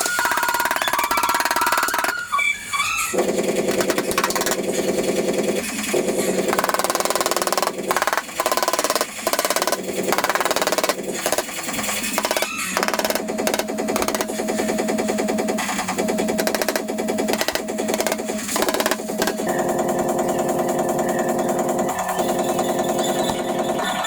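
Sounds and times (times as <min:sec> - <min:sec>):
power tool hammering sheet metal: 0:00.0 - 0:02.2, 0:03.1 - 0:23.8.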